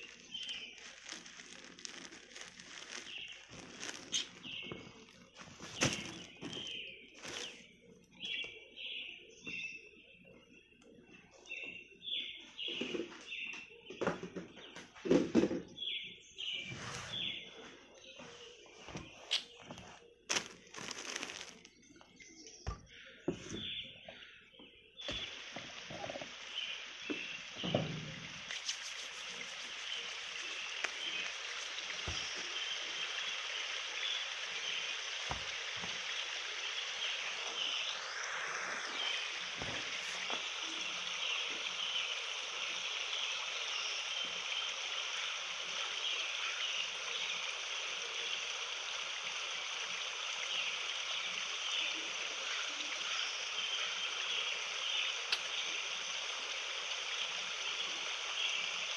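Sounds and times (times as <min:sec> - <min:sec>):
continuous hiss: 0:00.0 - 0:58.9
faint chirps: 0:00.0 - 0:58.9.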